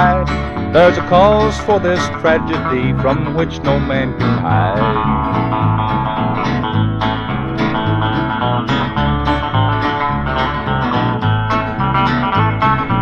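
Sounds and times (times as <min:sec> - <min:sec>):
bass line: 0:00.0 - 0:13.0
plucked guitar: 0:00.0 - 0:13.0.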